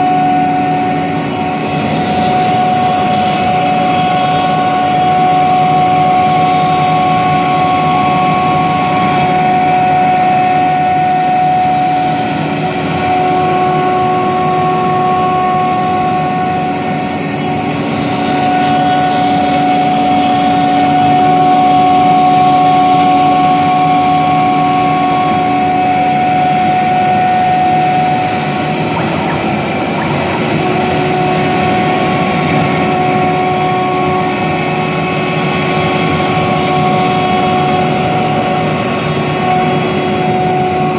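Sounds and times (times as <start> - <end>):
router spindle whining while milling wood: 0.0 - 40.9.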